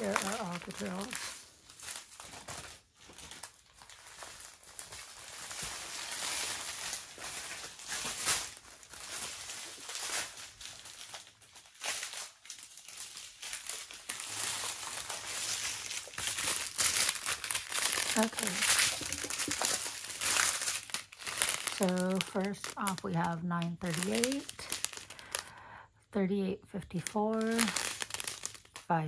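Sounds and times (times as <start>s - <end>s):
plastic bags crinkling: 0.0s - 25.7s, 27.0s - 29.0s.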